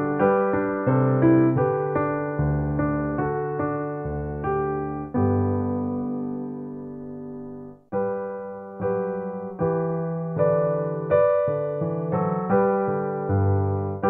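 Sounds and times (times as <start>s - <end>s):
keyboard chords: 0.0s - 14.0s.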